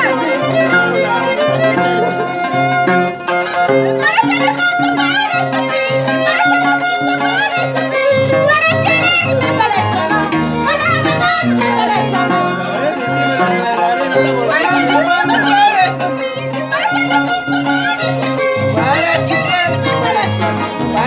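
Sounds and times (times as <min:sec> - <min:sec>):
harp plucking bass line: 0:00.0 - 0:21.0
violin melody with vibrato: 0:00.0 - 0:21.0.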